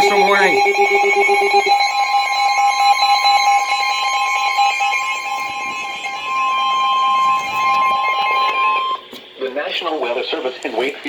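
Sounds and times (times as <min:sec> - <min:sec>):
low buzz: 0:00.0 - 0:09.0
emergency alert tone: 0:00.0 - 0:09.1.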